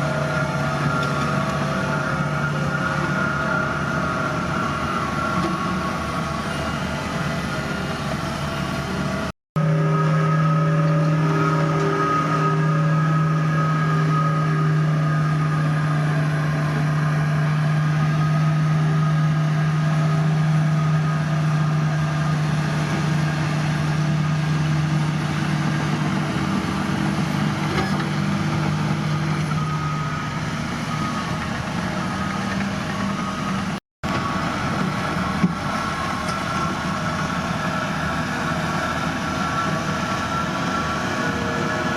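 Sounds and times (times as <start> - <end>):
heavy machinery diesel engines: 0.0 - 41.9.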